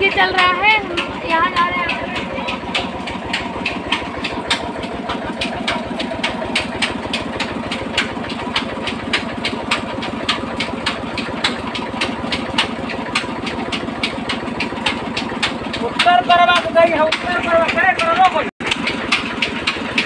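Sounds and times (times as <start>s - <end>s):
flour mill running with knocking: 0.0s - 20.0s.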